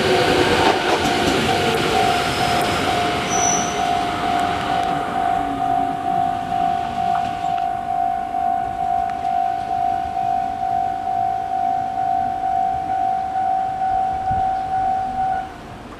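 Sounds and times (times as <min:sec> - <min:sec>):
level-crossing warning bell: 0:00.0 - 0:15.6
train running noise: 0:00.0 - 0:15.9.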